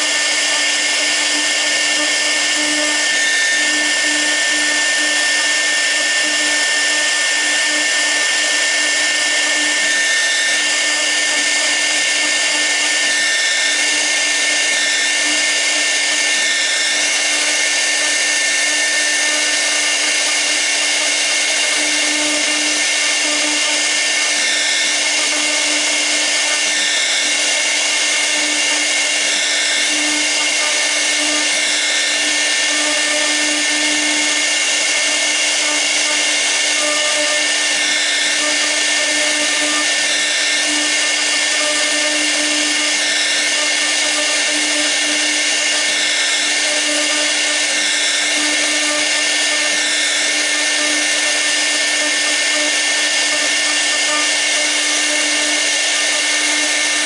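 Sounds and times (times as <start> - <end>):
router spindle whine and hiss: 0.0 - 57.0.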